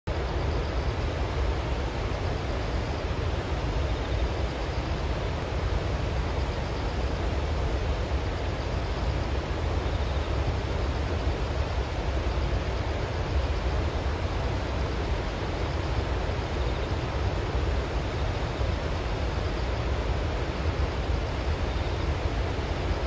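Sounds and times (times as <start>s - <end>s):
water rushing from dam spillway: 0.1s - 23.0s.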